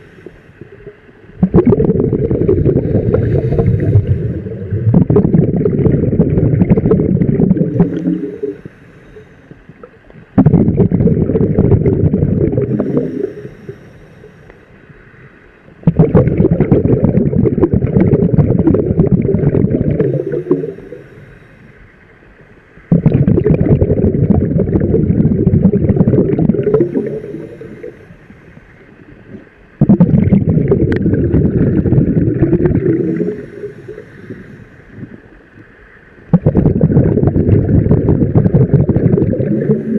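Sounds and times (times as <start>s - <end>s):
exhaled bubbles rumbling underwater: 0.0s - 39.9s.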